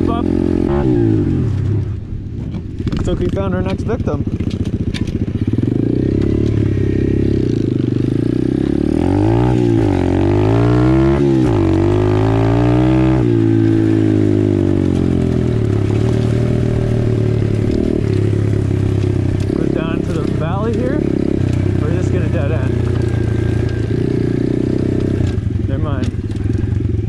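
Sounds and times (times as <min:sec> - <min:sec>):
motorbike engine revving: 0:00.0 - 0:27.0.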